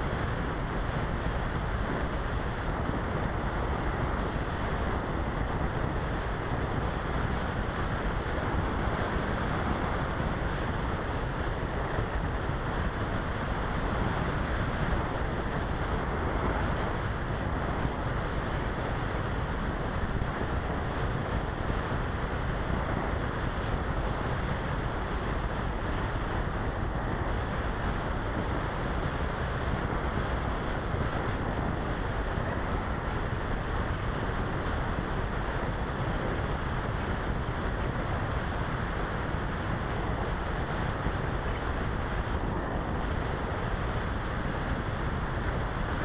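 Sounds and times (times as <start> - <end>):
airflow rushing over microphone: 0.0 - 46.0.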